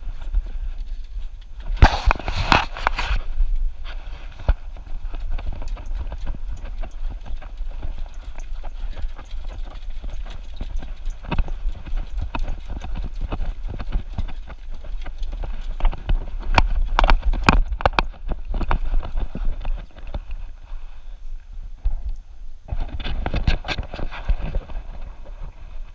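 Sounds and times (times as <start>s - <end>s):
low movement rumble on microphone: 0.0s - 25.9s.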